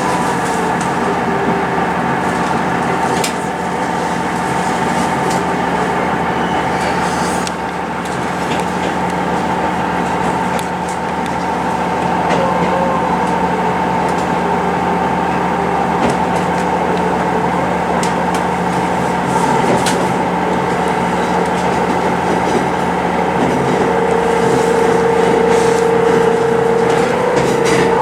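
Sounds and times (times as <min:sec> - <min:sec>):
railcar engine drone: 0:00.0 - 0:28.0
whining tone: 0:00.0 - 0:28.0.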